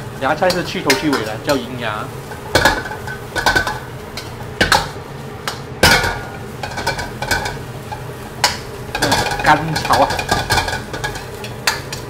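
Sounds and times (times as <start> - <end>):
spatula scraping and clanking in wok: 0.0 - 12.0.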